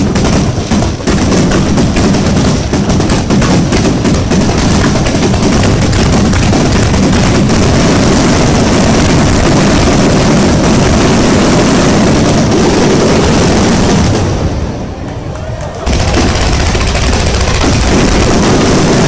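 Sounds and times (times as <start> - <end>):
fireworks barrage: 0.0 - 19.0.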